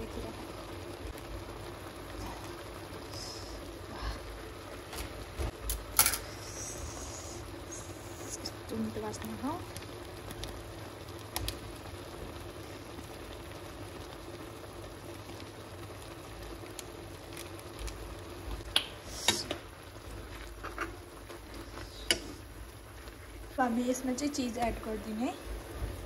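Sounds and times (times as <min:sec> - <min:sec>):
broth bubbling in a pot: 0:00.0 - 0:26.0.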